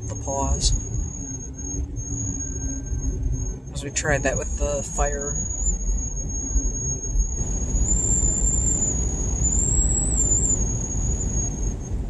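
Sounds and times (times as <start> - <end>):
car road rumble on snow: 0.0 - 12.0
high-pitched whine: 0.0 - 12.0.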